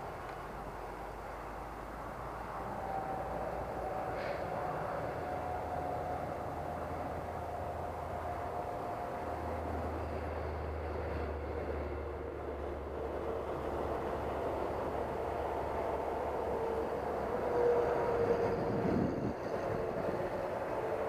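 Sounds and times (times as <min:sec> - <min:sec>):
model plane motor droning whine: 0:00.0 - 0:21.0.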